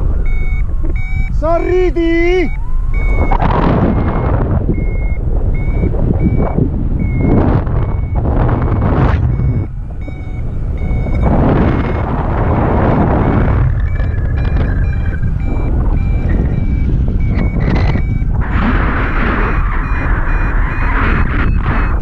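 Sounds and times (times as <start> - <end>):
variometer beeping: 0.0 - 22.0
wind buffeting microphone: 0.0 - 22.0.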